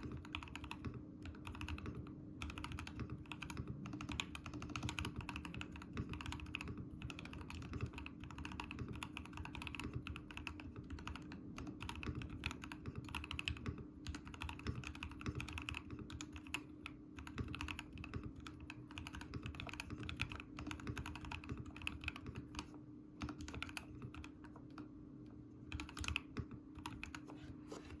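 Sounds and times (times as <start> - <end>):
mechanical keyboard typing: 0.0 - 24.9, 25.6 - 27.4
steady low hum: 0.0 - 28.0.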